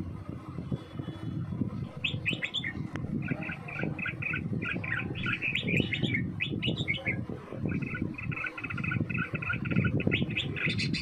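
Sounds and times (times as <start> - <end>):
steady low rumble: 0.0 - 11.0
bulbuls chirping: 1.8 - 11.0.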